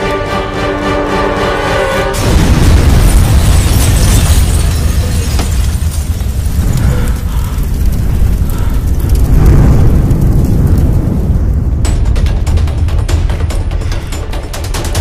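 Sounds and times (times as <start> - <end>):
deep rumble: 2.2 - 15.0.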